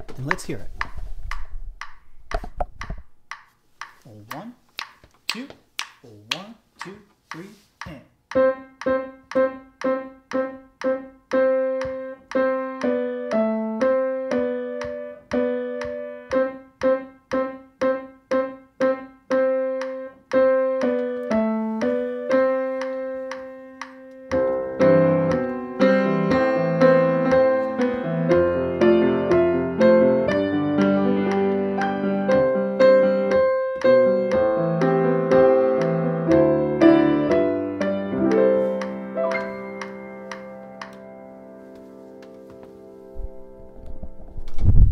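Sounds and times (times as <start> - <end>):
metronome clicks: 0.3 - 41.1
piano melody: 8.3 - 44.8.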